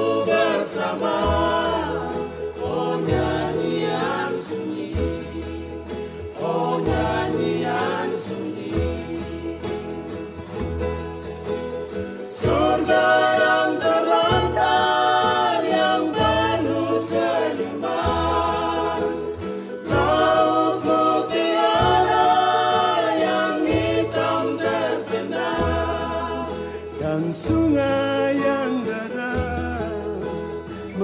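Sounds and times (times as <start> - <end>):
instrumental accompaniment with bass: 0.0 - 31.0.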